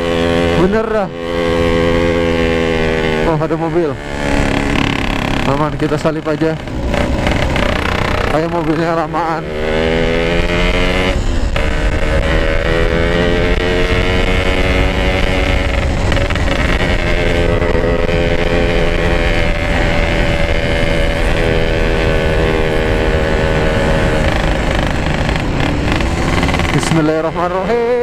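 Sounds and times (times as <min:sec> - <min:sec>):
motorcycle engine buzzing: 0:00.0 - 0:28.0
wind noise: 0:00.0 - 0:28.0.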